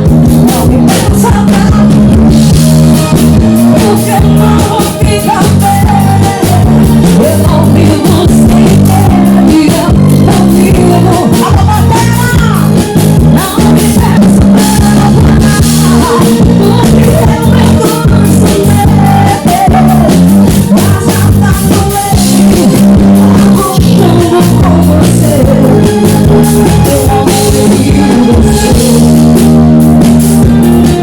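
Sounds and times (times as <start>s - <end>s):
heavy bass line: 0.0s - 31.0s
live band over sound system: 0.0s - 31.0s
sliding lead melody: 0.0s - 31.0s
steady drum beat: 0.0s - 31.0s.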